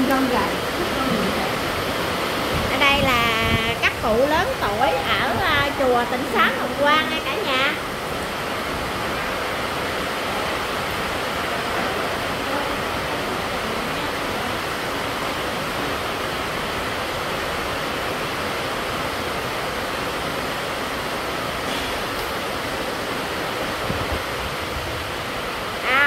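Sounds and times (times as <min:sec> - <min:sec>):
electric fan air rushing: 0:00.0 - 0:26.0.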